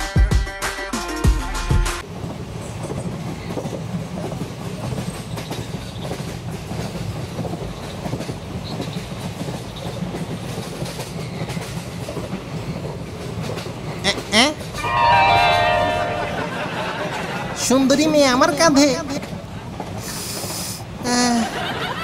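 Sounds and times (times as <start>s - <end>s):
train rumbling on track: 2.0s - 22.0s.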